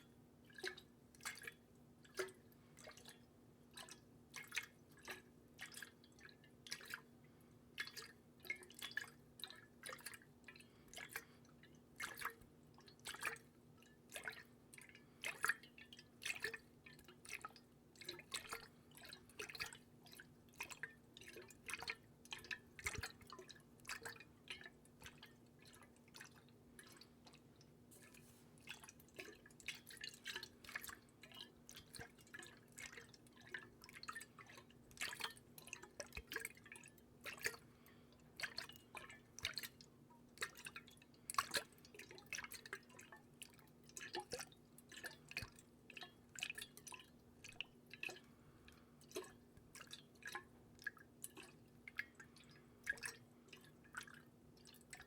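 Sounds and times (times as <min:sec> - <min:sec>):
water dripping and splashing: 0:00.4 - 0:07.0, 0:07.8 - 0:55.0.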